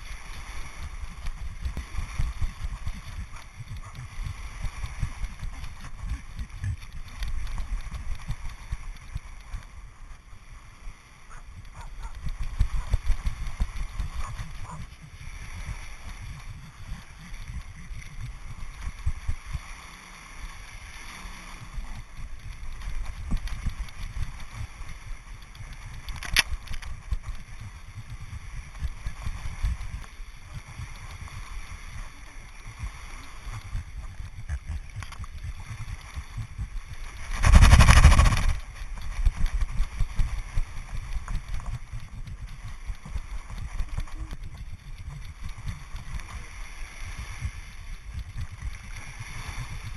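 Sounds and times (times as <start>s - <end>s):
waves washing on shore: 0.0s - 49.9s
wind rumbling on microphone: 0.0s - 49.9s.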